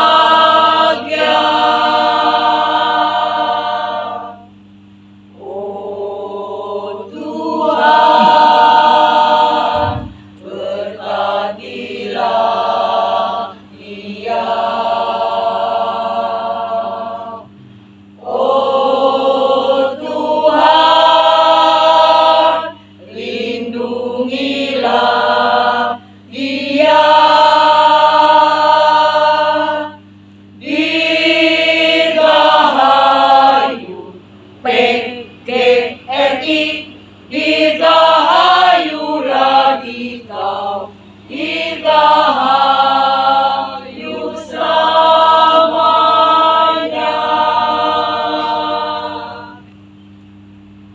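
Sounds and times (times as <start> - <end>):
choir singing a hymn: 0.0 - 4.5, 5.3 - 17.5, 18.2 - 49.7
steady low hum: 0.0 - 50.9.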